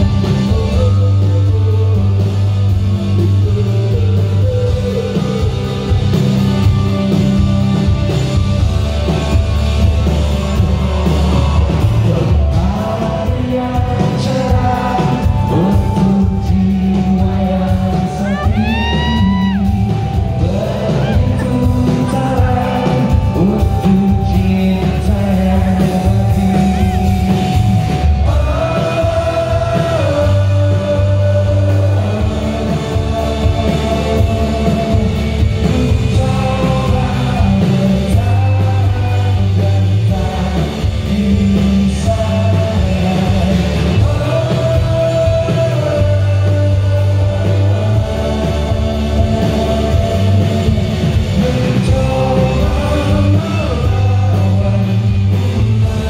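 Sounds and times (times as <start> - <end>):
man singing: 0.0 - 9.5, 10.6 - 56.0
electric guitar: 0.0 - 56.0
heavy bass beat: 0.0 - 56.0.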